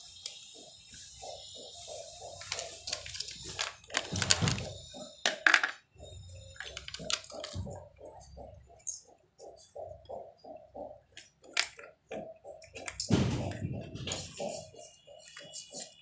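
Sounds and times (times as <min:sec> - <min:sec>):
knocks and clattering effects: 0:00.4 - 0:16.0.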